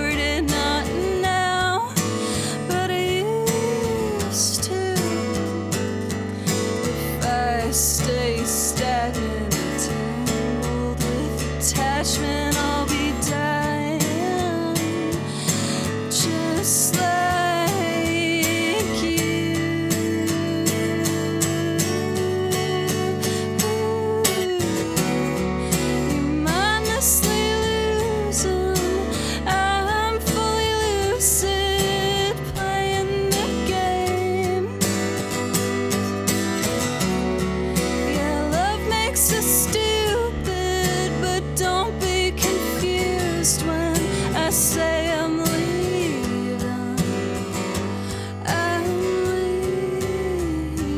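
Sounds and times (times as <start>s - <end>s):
acoustic guitar strumming: 0.0s - 50.9s
woman singing: 0.0s - 50.9s.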